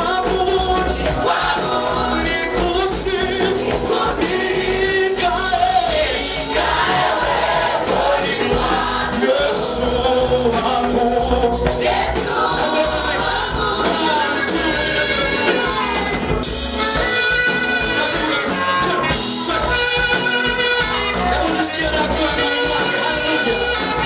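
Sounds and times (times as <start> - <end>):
instrumental accompaniment: 0.0 - 24.0
worship team singing praise song: 0.0 - 24.0.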